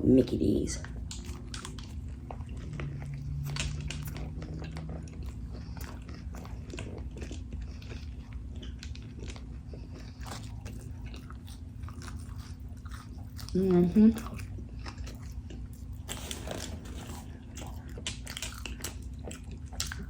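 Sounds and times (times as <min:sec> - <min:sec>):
low closed-mouth hum: 0:00.0 - 0:20.0
close chewing with mouth clicks: 0:00.7 - 0:20.0.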